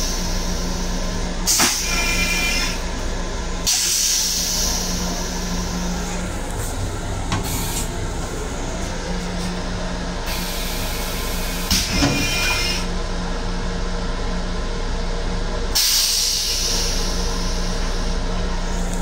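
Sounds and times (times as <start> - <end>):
railcar low hum: 0.0 - 19.0.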